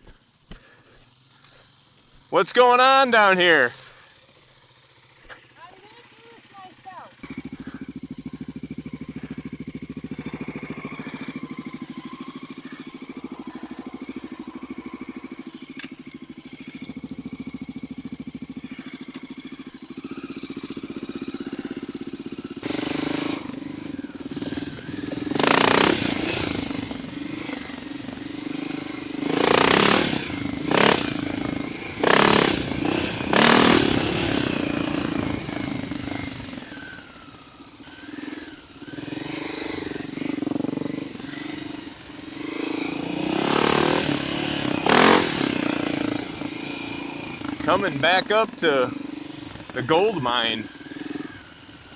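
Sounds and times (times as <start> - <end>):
dirt bike engine running: 0.0 - 51.9.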